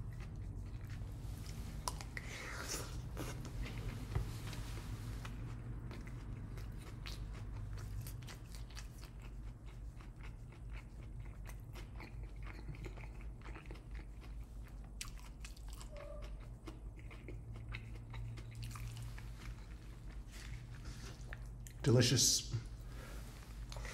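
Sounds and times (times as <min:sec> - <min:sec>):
close-up chewing: 0:00.0 - 0:21.9, 0:23.0 - 0:23.9.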